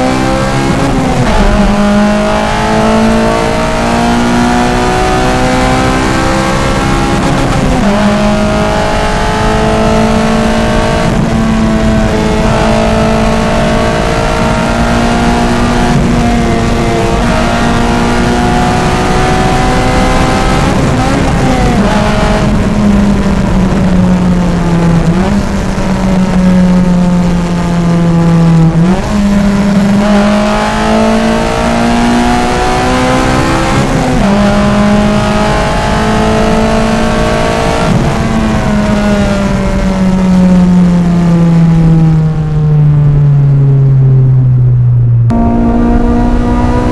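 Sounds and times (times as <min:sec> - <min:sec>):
car engine from inside cabin: 0:00.0 - 0:46.9.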